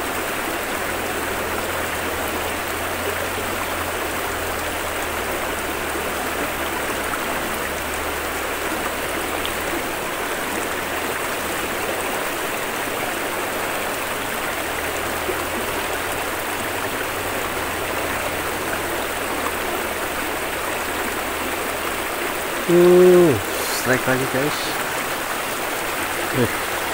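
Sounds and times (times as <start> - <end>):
river flowing over stones: 0.0 - 26.9.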